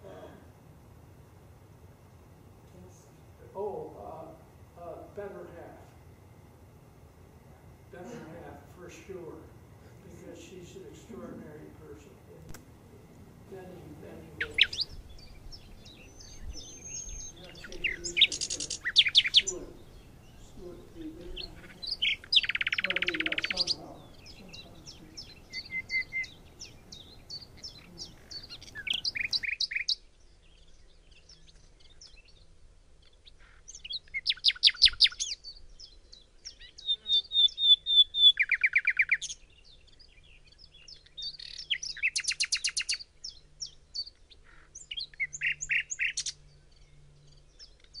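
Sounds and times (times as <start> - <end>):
songbirds trilling and chirping: 0.0 - 48.0.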